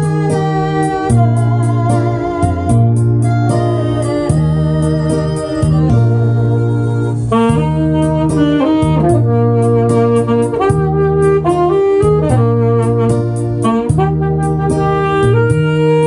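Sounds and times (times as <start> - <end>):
alto saxophone melody: 0.0 - 16.0
keyboard bass notes: 0.0 - 16.0
steady drum beat: 0.0 - 16.0.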